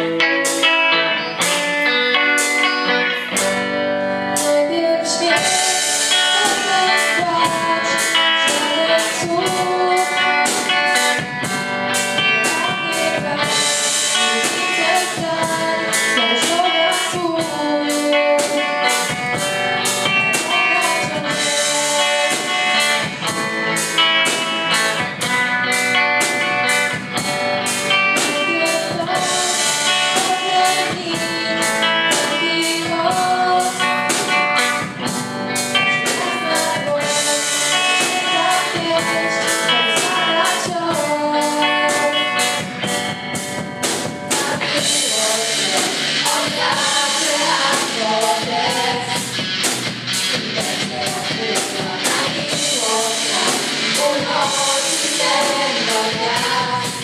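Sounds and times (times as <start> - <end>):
drum kit beat: 0.0 - 4.6, 5.3 - 57.0
electric guitars: 0.0 - 57.0
girl singing: 4.2 - 43.2, 44.0 - 49.4, 50.4 - 57.0.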